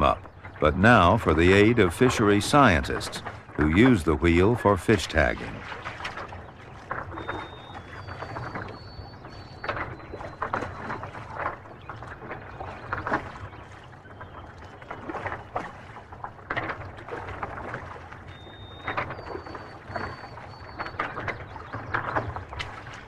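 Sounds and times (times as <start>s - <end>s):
water splashing: 0.0s - 23.0s.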